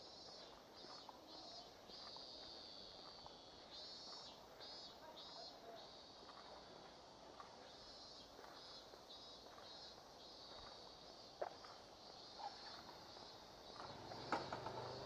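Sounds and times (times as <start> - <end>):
cicadas buzzing: 0.0 - 15.0
faint footstep clicks: 0.2 - 14.6.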